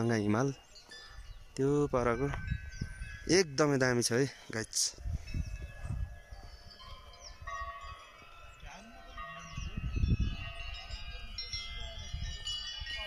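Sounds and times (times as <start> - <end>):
chimes ringing: 0.0 - 13.0
wind buffeting microphone: 0.9 - 3.7, 4.9 - 13.0.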